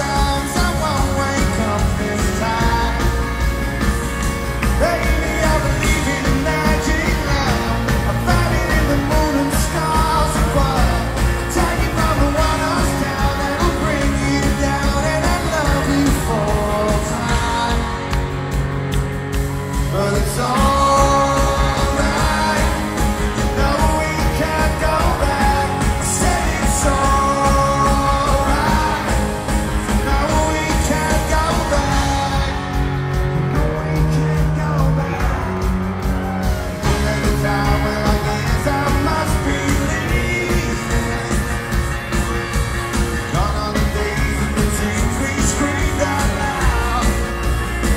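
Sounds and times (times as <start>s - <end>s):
man singing: 0.0s - 18.7s, 19.6s - 47.9s
rock band playing: 0.0s - 47.9s.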